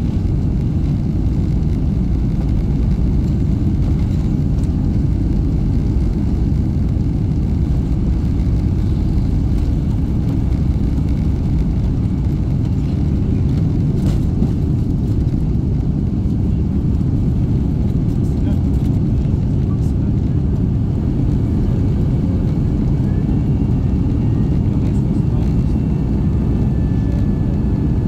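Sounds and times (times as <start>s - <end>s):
jet engines rumbling at takeoff: 0.0s - 28.0s
wheels running on runway: 0.0s - 28.0s.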